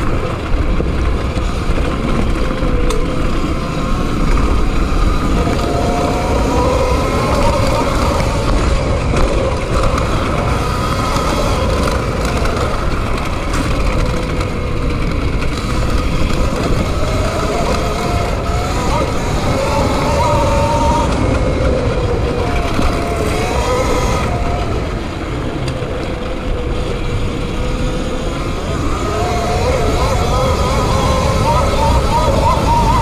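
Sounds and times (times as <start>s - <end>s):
electric motor whining: 0.0s - 33.0s
tyre and wind rumble: 0.0s - 33.0s.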